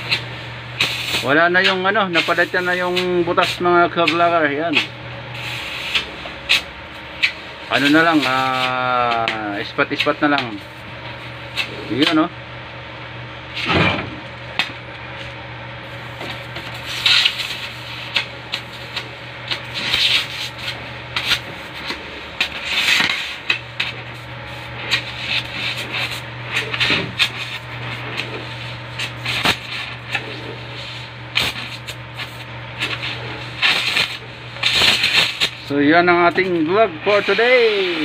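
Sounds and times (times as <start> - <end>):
gas torch hum and flame hiss: 0.0 - 38.0.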